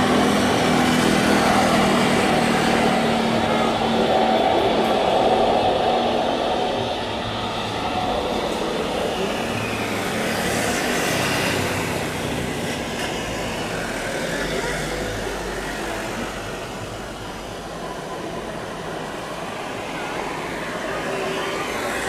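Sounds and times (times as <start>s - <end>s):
jet airliner roar: 0.0s - 22.0s.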